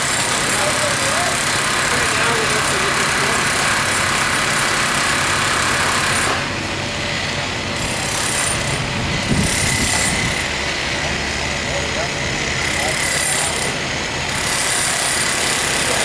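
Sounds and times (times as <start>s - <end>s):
crane engine rumbling: 0.0s - 16.0s.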